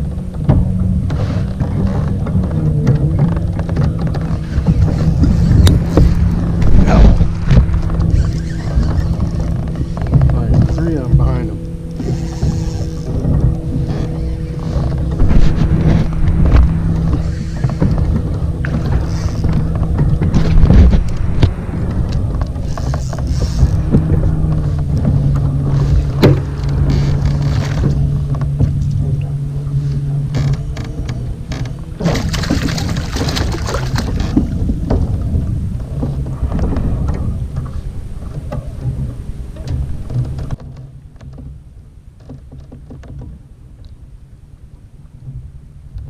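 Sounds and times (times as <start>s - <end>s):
water rush: 0.0s - 40.7s
steady low hum: 0.0s - 42.6s
water against kayak hull: 0.0s - 46.0s.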